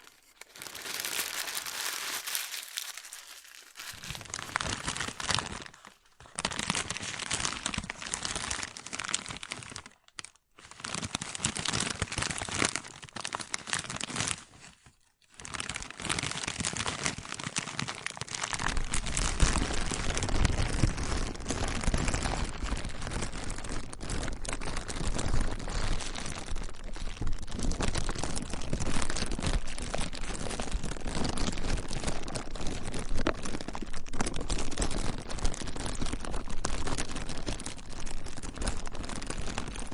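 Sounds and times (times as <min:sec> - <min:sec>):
plastic crinkling: 0:00.0 - 0:39.9.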